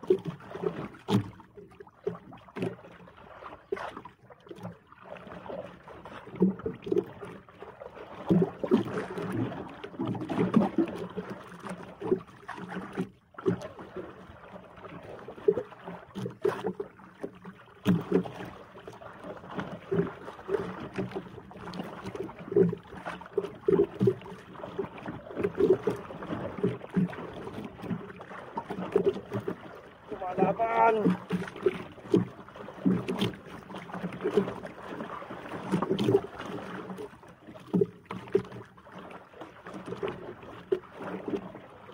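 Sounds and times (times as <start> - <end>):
water slapping against boat hull: 0.0 - 41.9.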